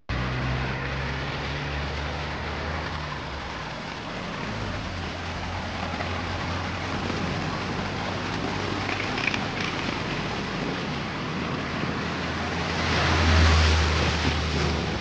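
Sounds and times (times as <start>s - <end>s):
steady traffic hiss: 0.1s - 15.0s
vehicle engine humming: 0.1s - 15.0s.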